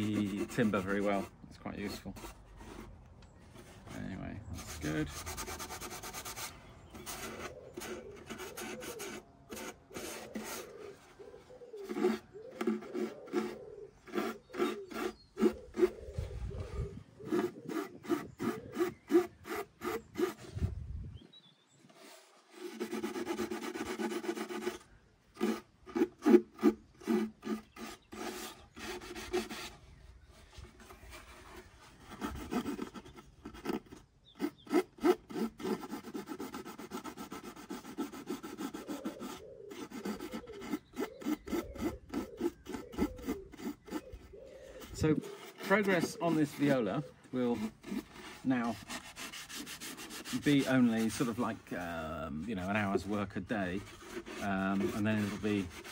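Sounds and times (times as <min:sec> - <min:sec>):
sandpaper rasping over wood: 0:00.0 - 0:02.9, 0:03.6 - 0:11.0, 0:11.8 - 0:16.6, 0:17.2 - 0:20.6, 0:22.0 - 0:55.9.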